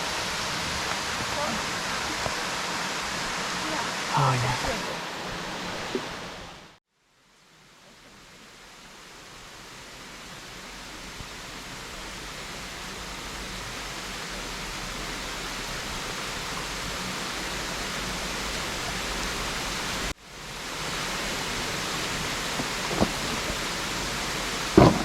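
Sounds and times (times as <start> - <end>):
waterfall rushing water: 0.0 - 25.0.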